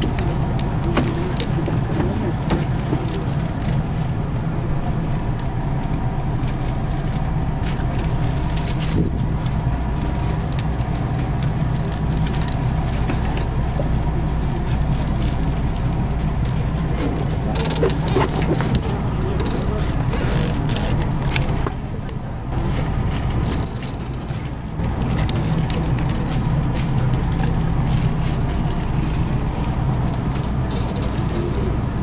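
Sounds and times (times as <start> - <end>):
train car hum: 0.0 - 32.0
faint clicks and rustles: 5.2 - 32.0.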